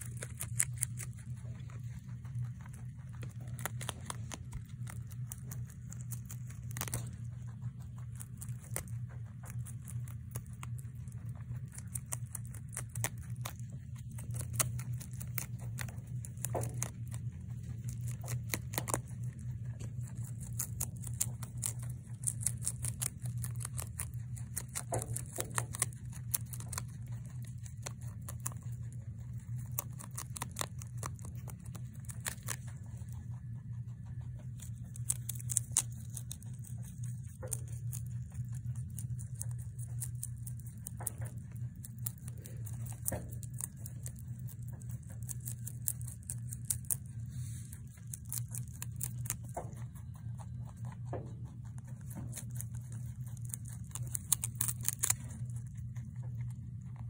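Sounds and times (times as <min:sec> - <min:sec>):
rabbit crunching lettuce: 0:00.0 - 0:57.0
steady low hum: 0:00.0 - 0:57.0.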